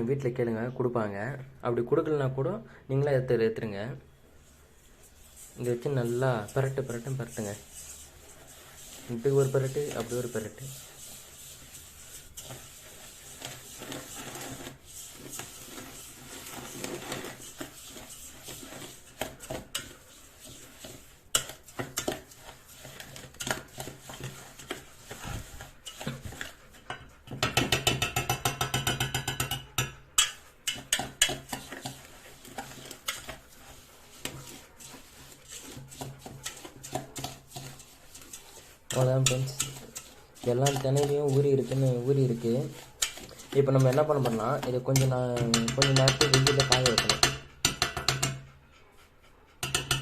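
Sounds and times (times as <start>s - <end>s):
utensil scraping and clicking in pot: 4.2s - 48.6s, 49.6s - 50.0s.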